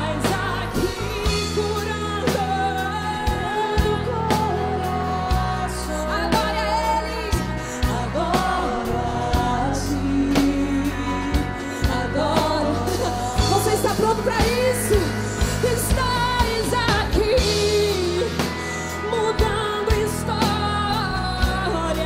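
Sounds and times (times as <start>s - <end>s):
singers singing together: 0.0s - 22.0s
worship band playing: 0.0s - 22.0s.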